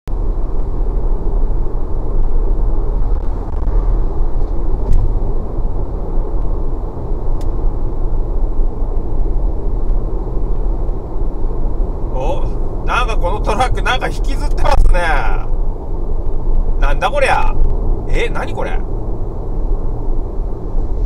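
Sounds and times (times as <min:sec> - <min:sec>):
car road and engine rumble: 0:00.1 - 0:21.0.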